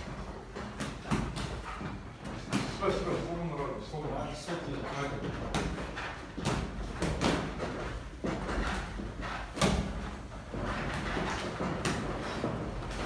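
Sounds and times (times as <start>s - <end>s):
boxing gloves thudding and slapping: 0.0s - 3.3s, 5.1s - 13.0s.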